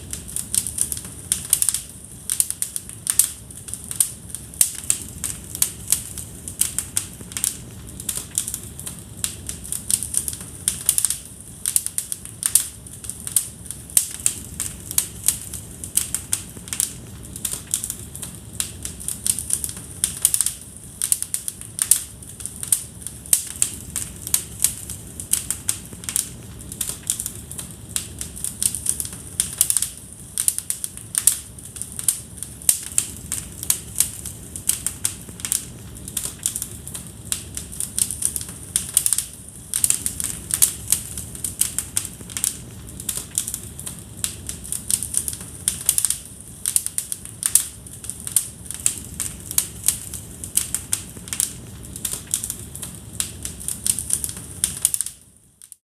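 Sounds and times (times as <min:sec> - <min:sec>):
low rush of flames: 0:00.0 - 0:55.4
fire crackling and popping: 0:00.0 - 0:55.8.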